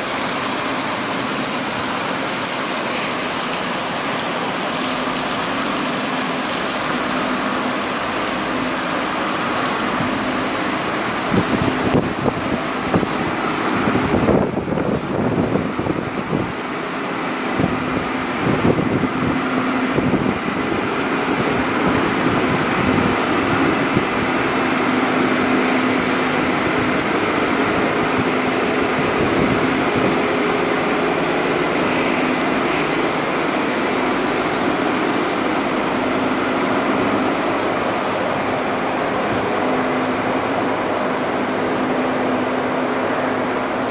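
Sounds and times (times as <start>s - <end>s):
ship diesel engine droning: 0.0s - 43.9s.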